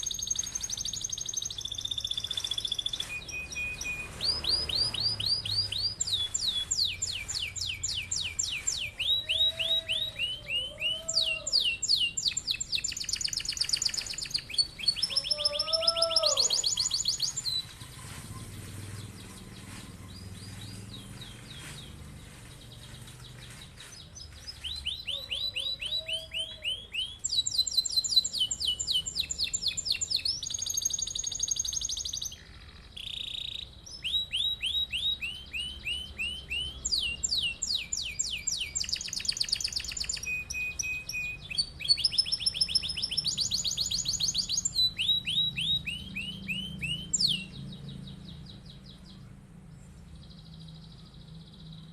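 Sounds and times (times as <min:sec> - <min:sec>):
canary singing trills: 0:00.0 - 0:49.4.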